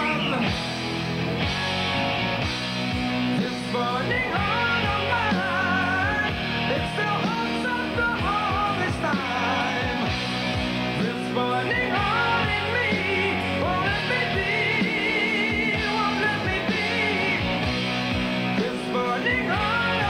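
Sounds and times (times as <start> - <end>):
bending lead guitar line: 0.0 - 20.0
hard rock band playing: 0.0 - 20.0
steady drum beat: 0.5 - 20.0.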